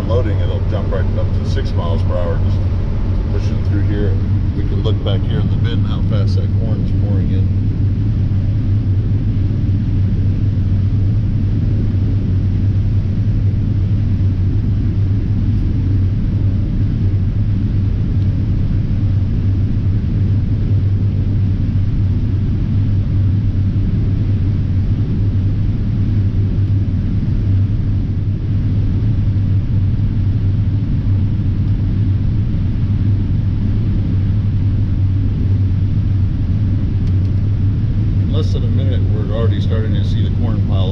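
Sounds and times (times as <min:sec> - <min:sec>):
combine engine drone: 0:00.0 - 0:40.9.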